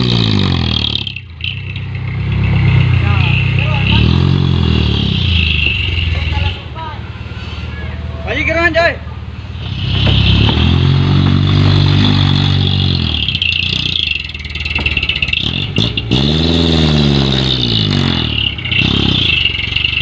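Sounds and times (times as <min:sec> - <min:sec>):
diesel truck engine revving: 0:00.0 - 0:06.8, 0:08.0 - 0:20.0.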